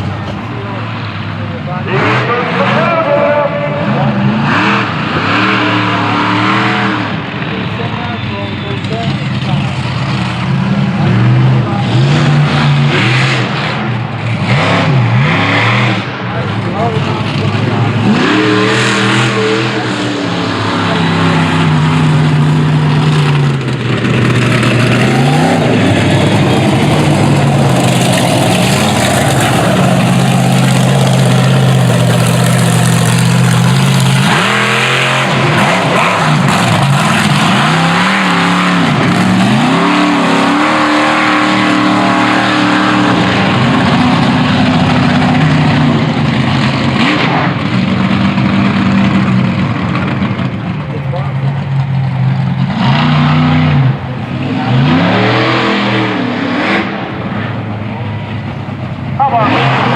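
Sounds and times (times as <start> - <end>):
monster truck engine revving: 0.0 - 59.9.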